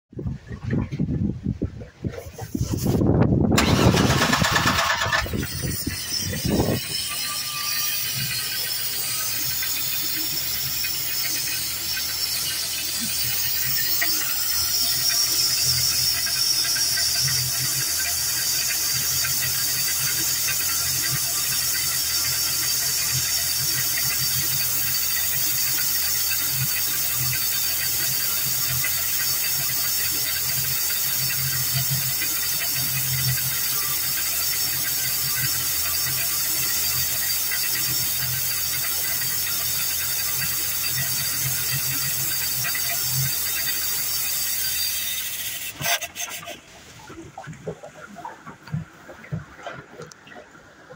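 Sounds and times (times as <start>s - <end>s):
boat engine idling: 0.2s - 50.9s
steady high-pitched sound: 3.6s - 46.6s.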